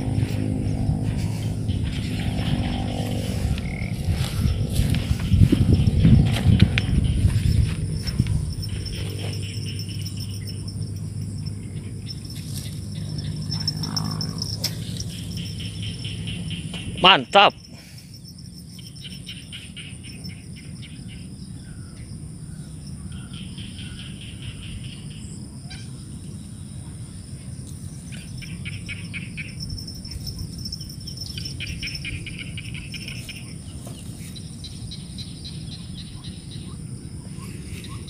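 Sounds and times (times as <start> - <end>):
birds chirping trills: 0.0 - 38.0
low outdoor rumble: 0.0 - 38.0.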